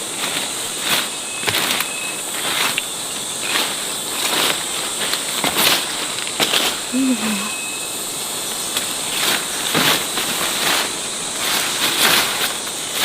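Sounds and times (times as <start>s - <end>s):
insects calling: 0.0s - 13.0s.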